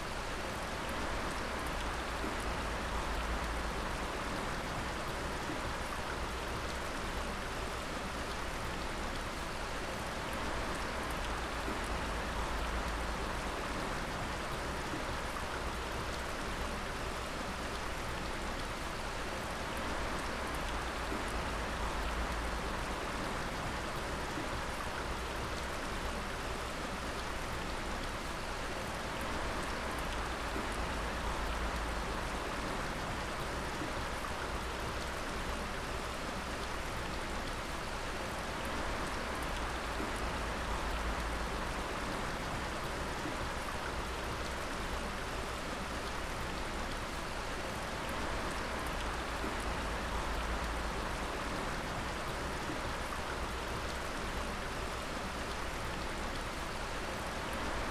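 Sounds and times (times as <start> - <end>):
water dripping and splashing: 10.3 - 57.9.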